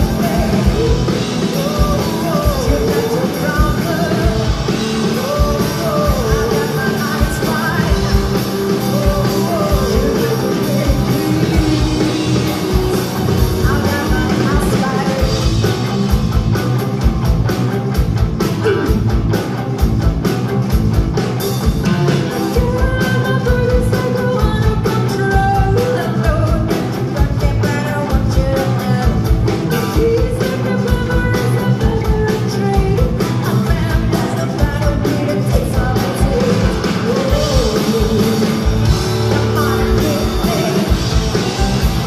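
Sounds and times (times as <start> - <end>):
woman singing: 0.0 - 15.6, 22.4 - 41.6
live rock band: 0.0 - 42.0.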